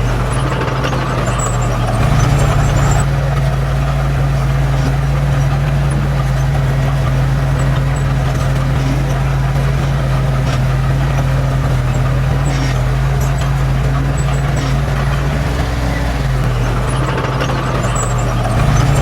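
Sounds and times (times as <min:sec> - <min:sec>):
heavy machinery diesel engine: 0:00.0 - 0:19.0.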